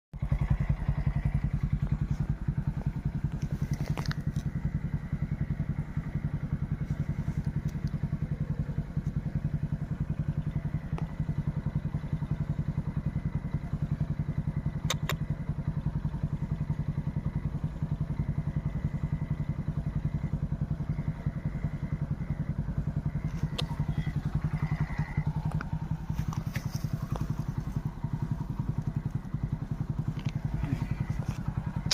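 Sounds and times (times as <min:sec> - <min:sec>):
engine running steadily: 0:00.2 - 0:31.9.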